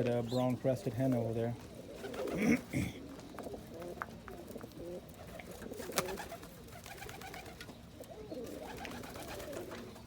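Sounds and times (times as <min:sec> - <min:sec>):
pigeons cooing: 0:01.6 - 0:10.0.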